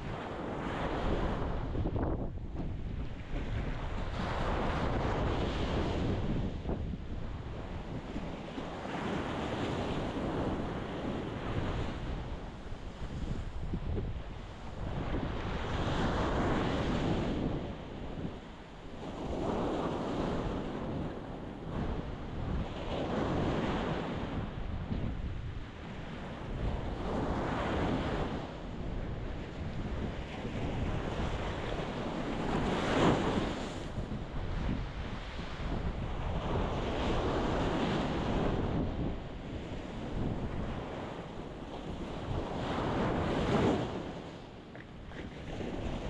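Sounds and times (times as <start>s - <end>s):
low rumble of the sea: 0.0s - 46.0s.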